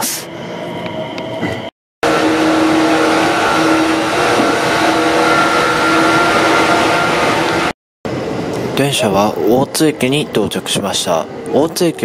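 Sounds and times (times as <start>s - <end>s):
electric train rumble and hiss: 0.0s - 12.0s
train humming tones: 0.0s - 12.0s.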